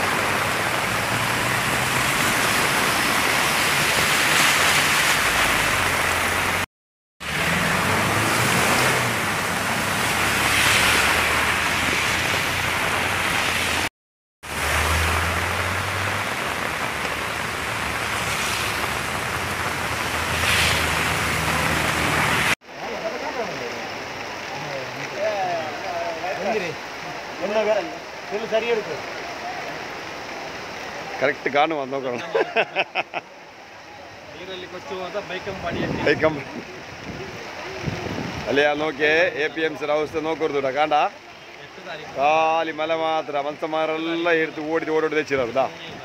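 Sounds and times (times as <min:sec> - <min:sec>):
heavy rain: 0:00.0 - 0:46.0
rushing water: 0:00.0 - 0:46.0
tyres splashing through water: 0:00.0 - 0:46.0.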